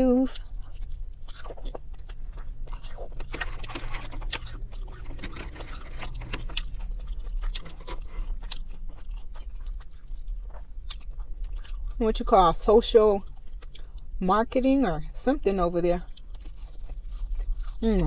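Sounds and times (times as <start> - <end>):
wet chewing: 0.0 - 14.7, 15.6 - 18.0.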